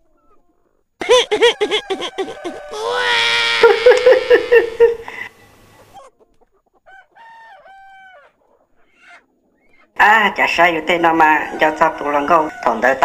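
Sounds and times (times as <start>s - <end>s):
chicken crowing and clucking: 0.1s - 9.9s, 11.0s - 13.0s.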